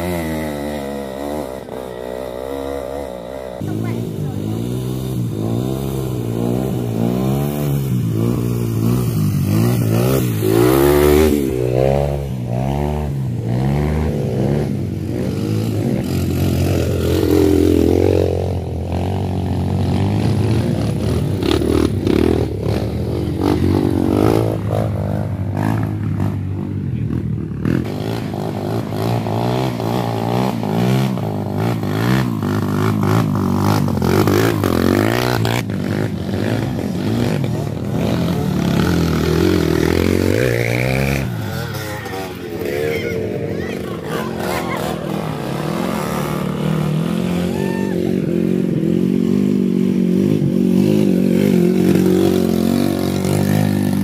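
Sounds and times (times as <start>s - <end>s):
motorcycle passing close: 0.0s - 54.0s
motorcycles revving: 0.0s - 54.0s.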